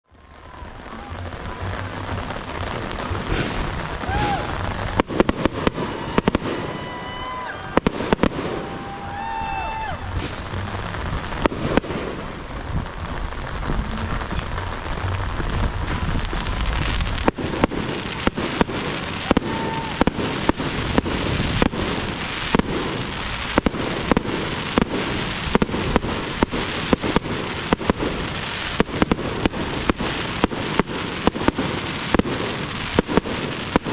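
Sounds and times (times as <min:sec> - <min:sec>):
fireworks crackling hiss: 0:00.0 - 0:33.9
fireworks bangs: 0:00.1 - 0:33.9.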